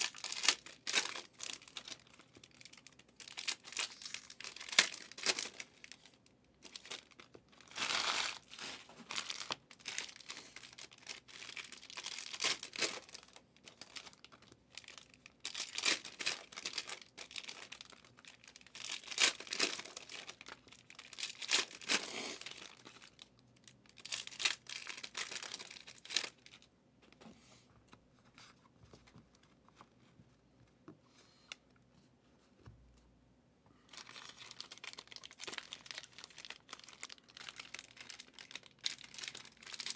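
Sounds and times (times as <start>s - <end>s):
foil wrappers tearing and crinkling: 0.0s - 26.6s, 34.0s - 39.9s.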